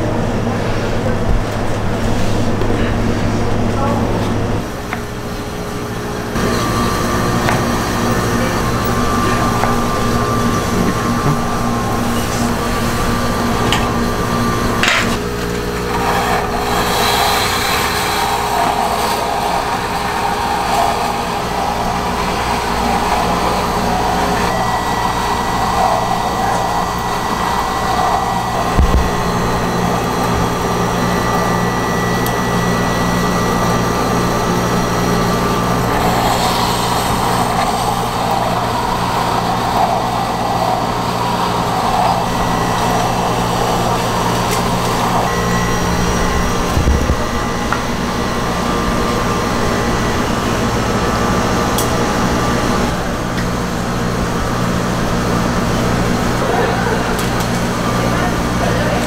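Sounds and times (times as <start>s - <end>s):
ice-shaving machine motor hum: 0.0s - 59.0s.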